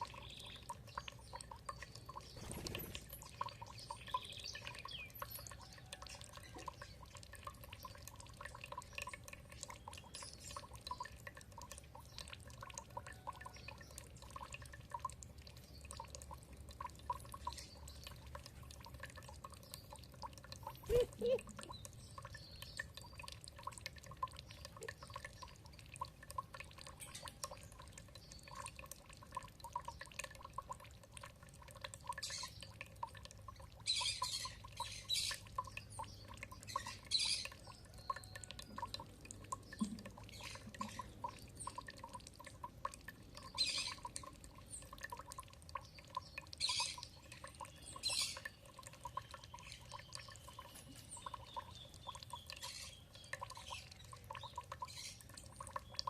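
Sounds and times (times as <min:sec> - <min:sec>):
water dripping and trickling: 0:00.0 - 0:56.0.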